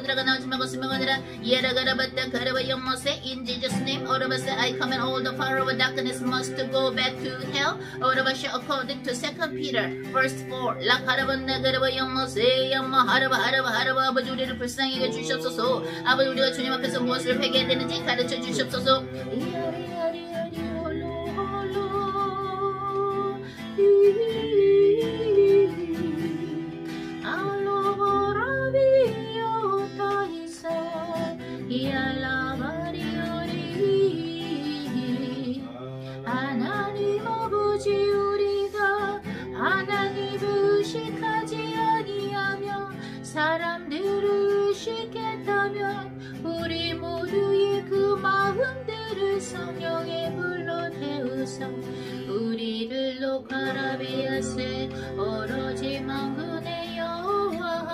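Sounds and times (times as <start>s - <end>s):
plucked guitar: 0.0s - 57.9s
woman singing: 0.0s - 57.9s.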